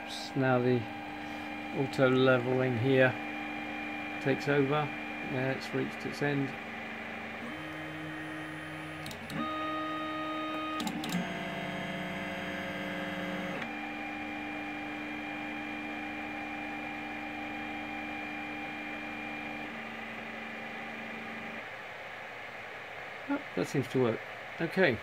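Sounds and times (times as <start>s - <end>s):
stepper motors whining: 0.0s - 21.6s.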